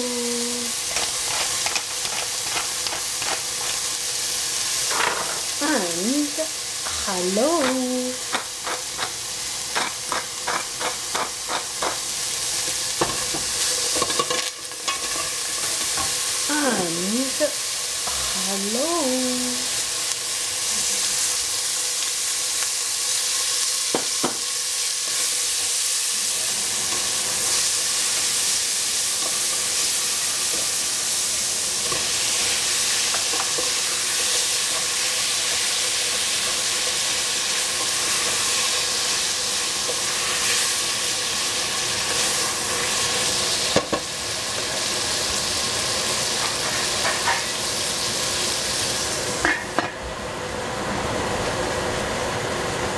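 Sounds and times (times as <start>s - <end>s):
food sizzling in hot oil: 0.0s - 52.9s.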